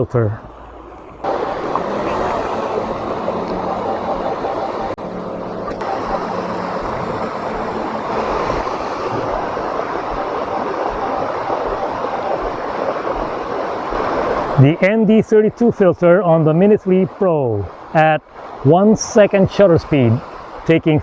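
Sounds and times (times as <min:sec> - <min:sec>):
faint steady hum: 0:00.0 - 0:21.0
waterfall rushing: 0:01.2 - 0:21.0.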